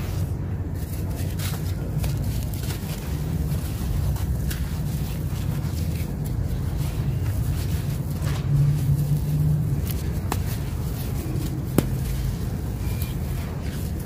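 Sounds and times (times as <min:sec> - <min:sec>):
hands crushing dry cement chunks: 0:00.0 - 0:14.0.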